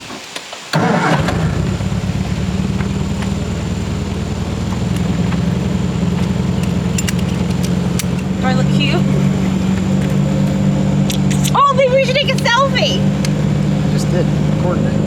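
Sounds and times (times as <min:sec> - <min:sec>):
car engine idling: 0:00.8 - 0:15.0.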